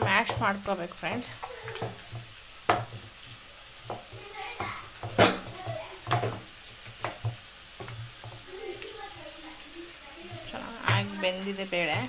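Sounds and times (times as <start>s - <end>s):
wooden masher pounding wet dal: 0.0s - 8.7s, 10.3s - 12.0s.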